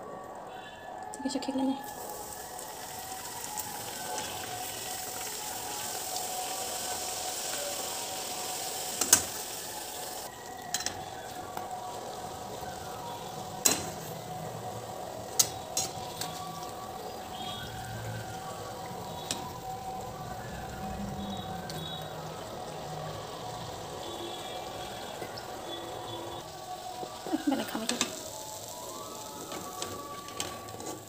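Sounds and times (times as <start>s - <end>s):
egg sizzling in hot oil: 1.8s - 31.0s.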